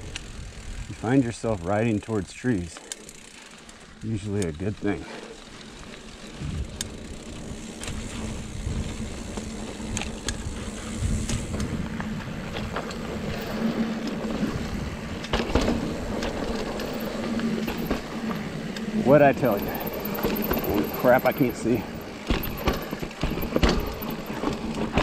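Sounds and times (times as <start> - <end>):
bike clicks and rattles: 0.0 - 25.0
bike tyre rumbling on dirt: 0.0 - 25.0.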